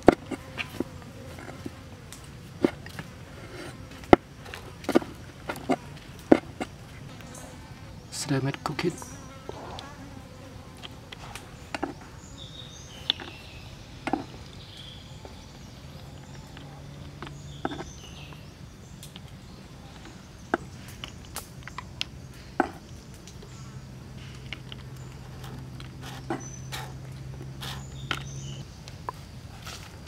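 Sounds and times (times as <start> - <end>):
flies buzzing: 0.0 - 28.6.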